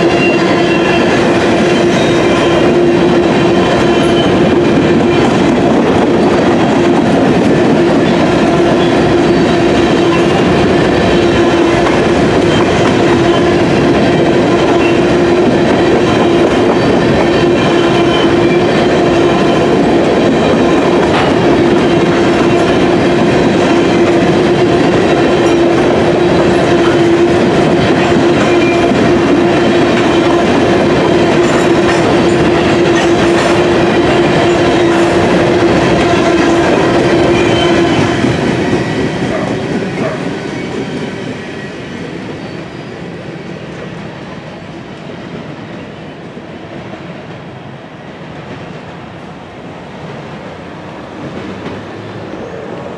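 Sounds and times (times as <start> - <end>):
train wheels clattering on rails: 0.0 - 52.9.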